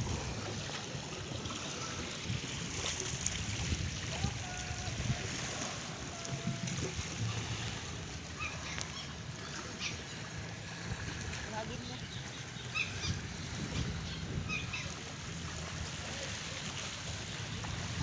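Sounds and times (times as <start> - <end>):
waves lapping on pebbles: 0.0 - 18.0.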